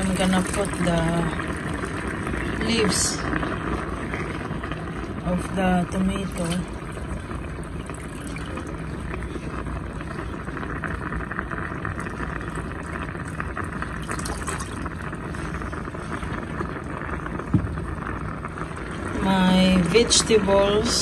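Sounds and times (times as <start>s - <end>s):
soup boiling in a pot: 0.0s - 21.0s.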